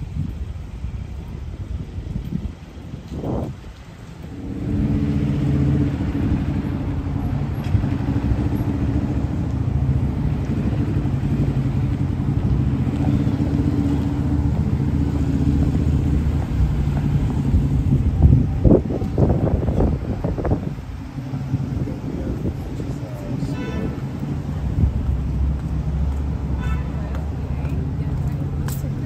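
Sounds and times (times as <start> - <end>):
vehicle engine idling: 4.3 - 29.0.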